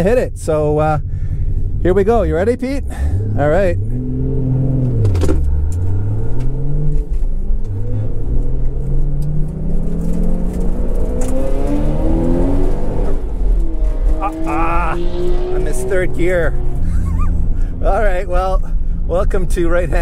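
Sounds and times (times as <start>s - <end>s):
car engine accelerating hard: 1.8s - 18.2s.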